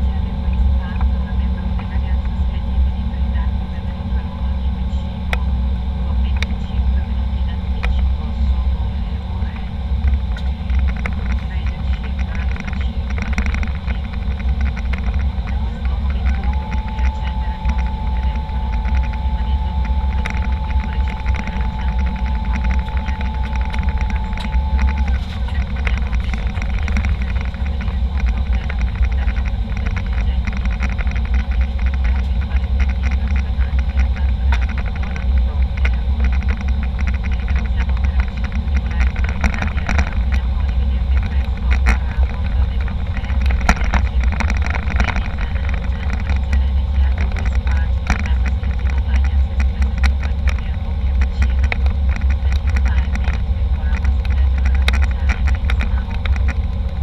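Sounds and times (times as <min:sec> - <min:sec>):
airliner engine and airflow rumble: 0:00.0 - 0:57.0
fine rattling and crackling: 0:09.3 - 0:57.0.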